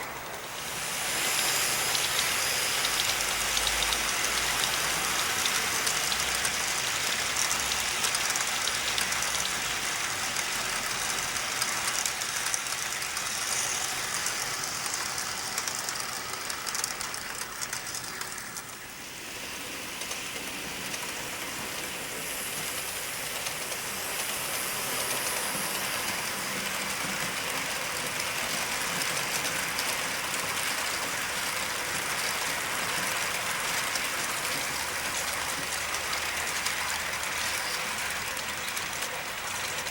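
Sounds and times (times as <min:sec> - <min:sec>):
model train wheels clattering on rails: 0:00.0 - 0:39.9.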